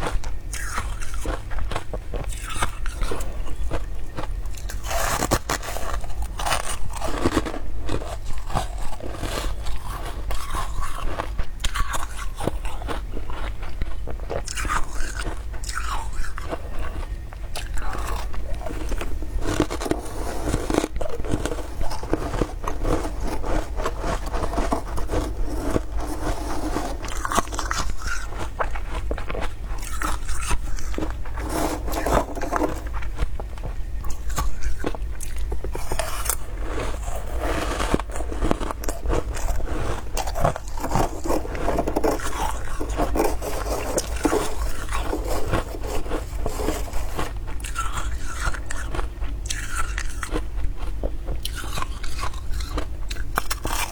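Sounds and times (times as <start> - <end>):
frost scraping and crunching: 0.1 - 50.4, 51.4 - 53.9.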